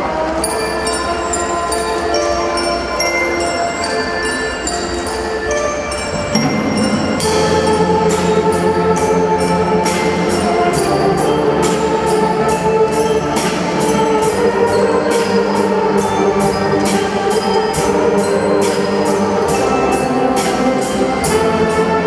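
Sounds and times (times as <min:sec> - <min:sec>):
brass chords: 0:00.0 - 0:22.0
drum and cymbal beat: 0:03.0 - 0:22.0.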